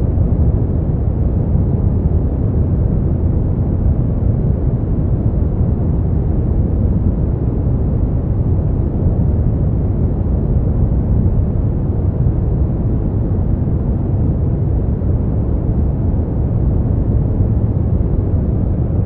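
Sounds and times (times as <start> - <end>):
deep rumbling white noise: 0.0 - 19.0.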